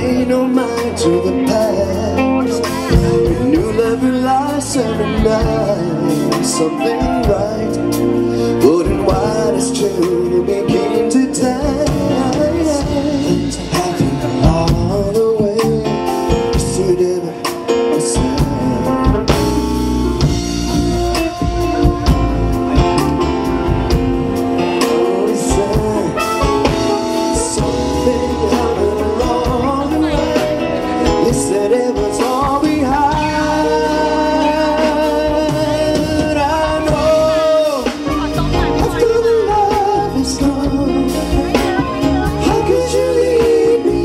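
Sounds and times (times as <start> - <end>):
band music: 0.0 - 44.0
melodic lead line: 0.0 - 44.0.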